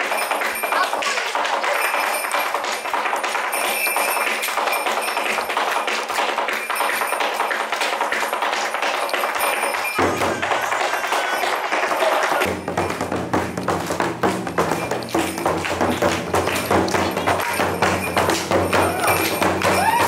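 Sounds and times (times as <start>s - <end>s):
percussive music with rapid tapping: 0.0s - 20.0s.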